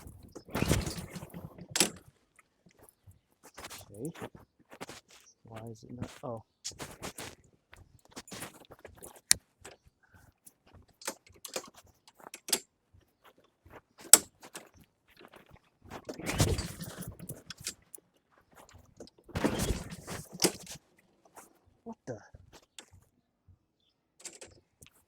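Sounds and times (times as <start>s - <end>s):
hands working on lawn mower: 0.0s - 21.7s, 22.4s - 23.2s, 23.8s - 25.0s.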